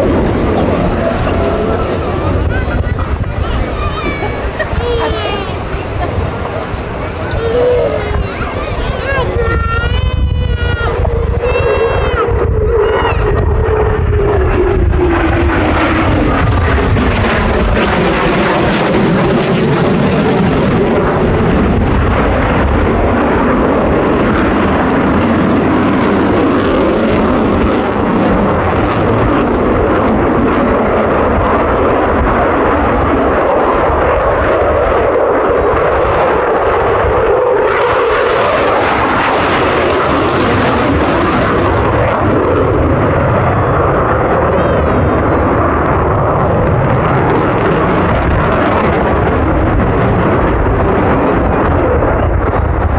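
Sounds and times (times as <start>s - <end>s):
jet engine roar: 0.0s - 52.9s.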